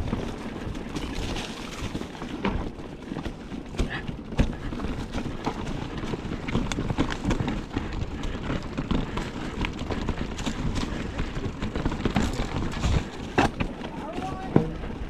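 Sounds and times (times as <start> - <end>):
mountain bike rattling over rocks: 0.0 - 15.0.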